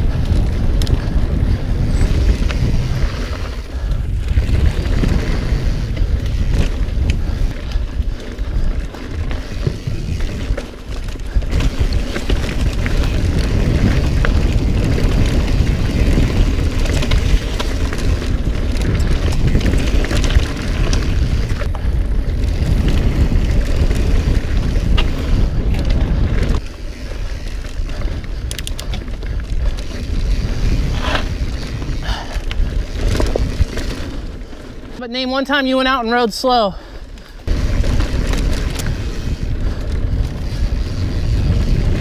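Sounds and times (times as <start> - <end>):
clicks from trail: 0.0 - 42.0
mountain bike rumble and rattle: 0.0 - 42.0
wind buffeting microphone: 0.0 - 42.0.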